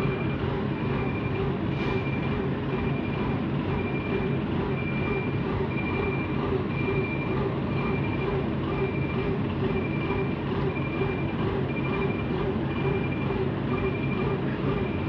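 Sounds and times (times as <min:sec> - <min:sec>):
crane diesel engine running: 0:00.0 - 0:15.0.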